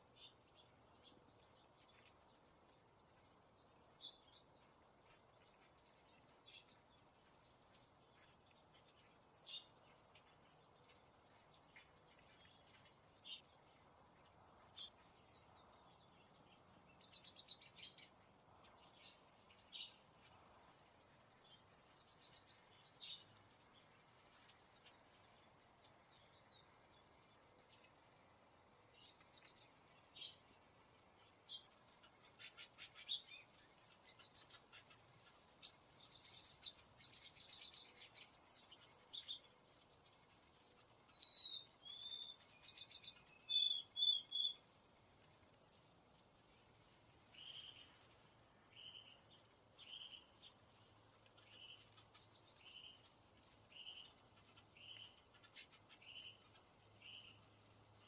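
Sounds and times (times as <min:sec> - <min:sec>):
songbirds chipping: 0:00.0 - 0:58.0.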